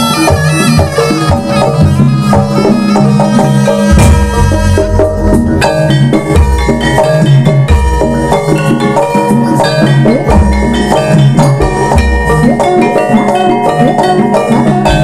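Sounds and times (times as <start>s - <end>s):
gamelan-style percussion: 0.0s - 15.0s
hand drums: 0.0s - 15.0s
reedy shawm melody: 0.0s - 15.0s.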